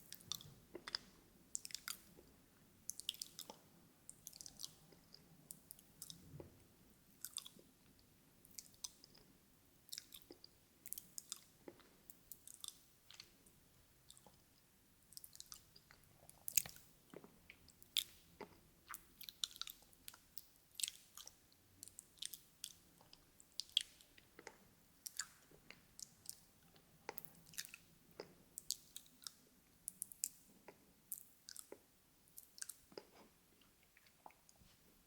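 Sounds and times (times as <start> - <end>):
mouth clicks and smacks: 0.0 - 2.3, 2.9 - 6.4, 7.2 - 7.6, 9.9 - 13.3, 15.1 - 34.6.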